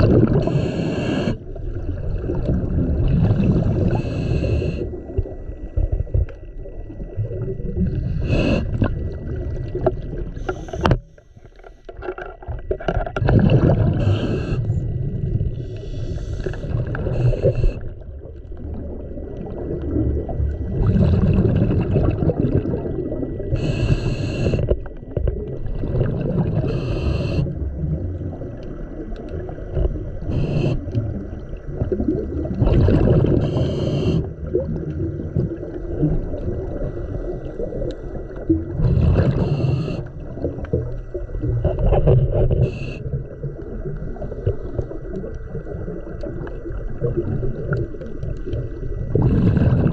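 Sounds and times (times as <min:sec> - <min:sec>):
exhaled bubbles underwater: 0:00.0 - 0:49.9
low rumble of water noise: 0:00.0 - 0:49.9.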